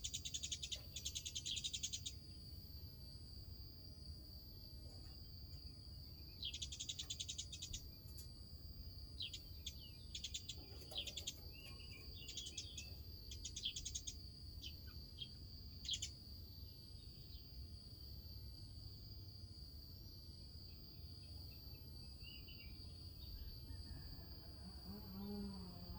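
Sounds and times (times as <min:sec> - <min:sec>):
crickets trilling: 0:00.0 - 0:25.9.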